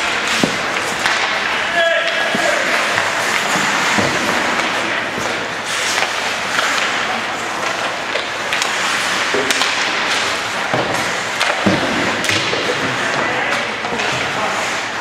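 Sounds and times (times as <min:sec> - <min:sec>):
hockey sticks hitting puck: 0:00.0 - 0:15.0
skates scraping ice: 0:00.0 - 0:15.0.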